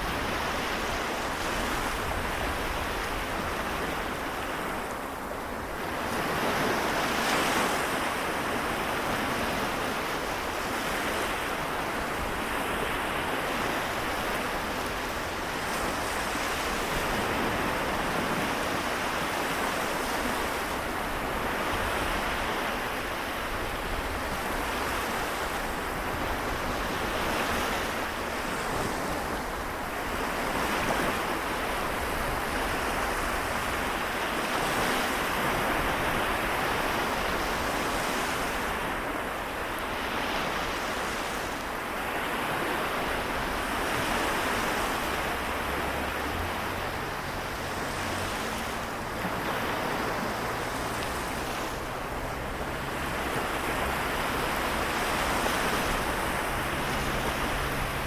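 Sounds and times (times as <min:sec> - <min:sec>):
small waves washing on shore: 0:00.0 - 0:58.0.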